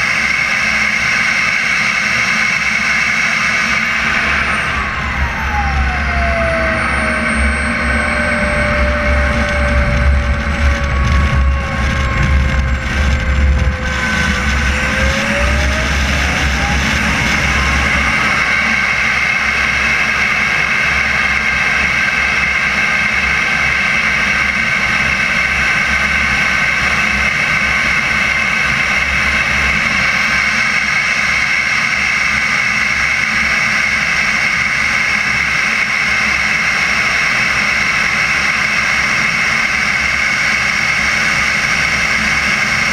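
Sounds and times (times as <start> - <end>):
model jet turbine whine: 0.0 - 42.9
heavy low rumble: 2.1 - 42.9.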